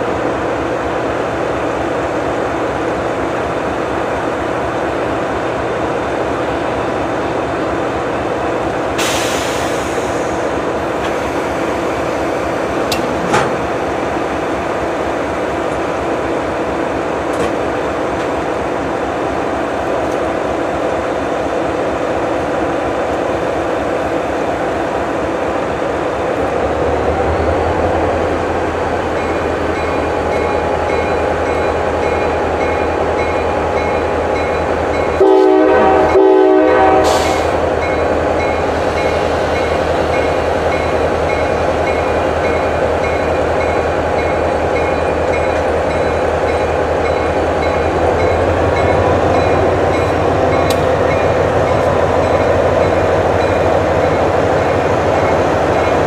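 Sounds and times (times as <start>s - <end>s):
train engine rumbling: 0.0s - 56.0s.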